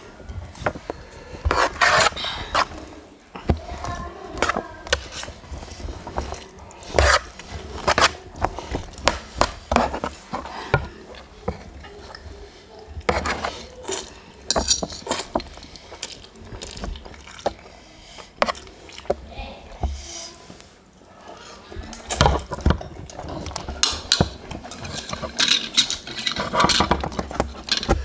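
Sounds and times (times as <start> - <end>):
noodles slurped and chewed: 0.0 - 28.0.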